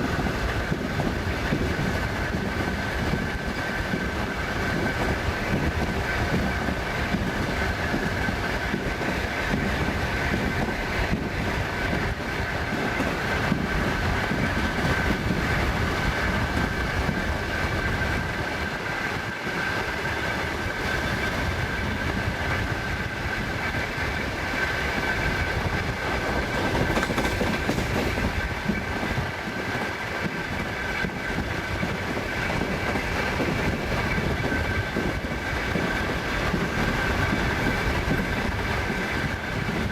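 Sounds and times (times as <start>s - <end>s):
train wheels rumbling on rails: 0.0s - 39.9s
wheels clickety-clack over rail joints: 0.0s - 39.9s.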